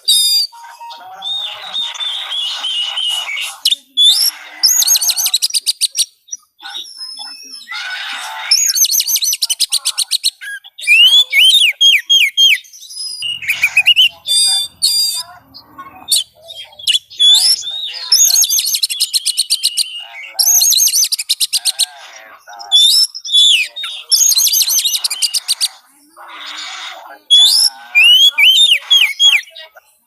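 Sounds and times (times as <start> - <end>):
songbird whistles and trills: 0.0 - 7.7, 8.5 - 21.7, 22.6 - 25.8, 27.1 - 29.8.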